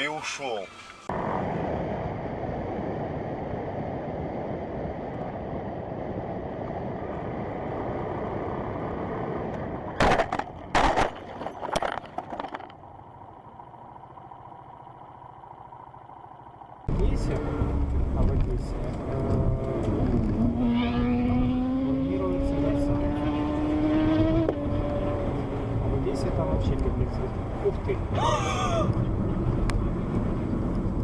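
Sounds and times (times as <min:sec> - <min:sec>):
vehicle driving noise: 0:00.0 - 0:31.0.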